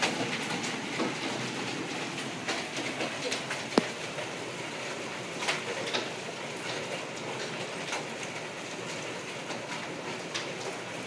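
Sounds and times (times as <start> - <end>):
hailstones clicking: 0.0 - 11.0
rain hiss: 0.0 - 11.0.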